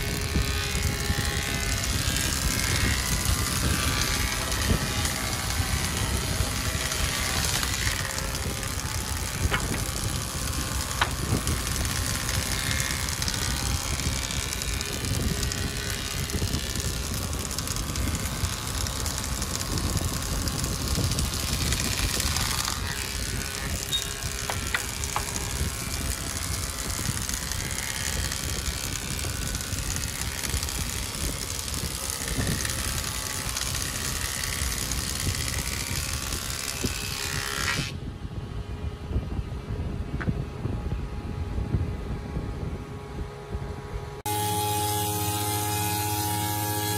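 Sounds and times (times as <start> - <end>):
wood planing machine cutting: 0.0 - 38.0, 44.2 - 46.9.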